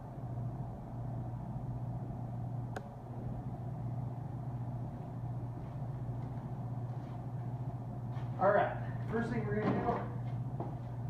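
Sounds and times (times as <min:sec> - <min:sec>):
low mechanical hum: 0:00.0 - 0:11.0
room noise: 0:00.0 - 0:11.0.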